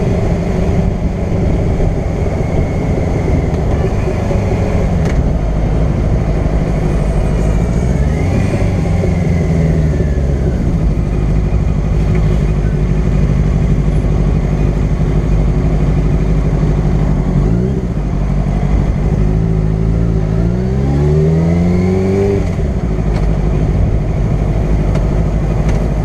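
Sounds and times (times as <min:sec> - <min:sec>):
motorcycle engine accelerating: 0:00.0 - 0:26.0
wind and road noise: 0:00.0 - 0:26.0.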